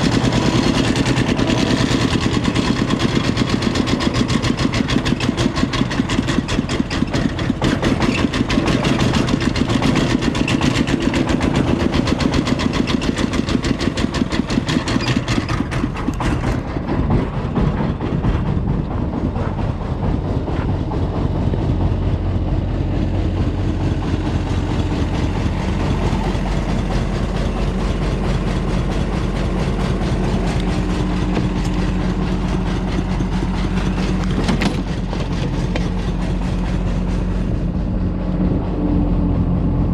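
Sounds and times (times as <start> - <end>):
deep engine hum: 0.0 - 39.9
diesel engines chugging: 0.0 - 39.9.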